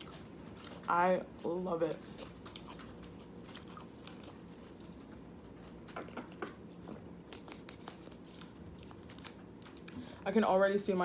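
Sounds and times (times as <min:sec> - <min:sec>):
person chewing noodles: 0:00.0 - 0:10.0
faint steady hum: 0:00.0 - 0:11.0.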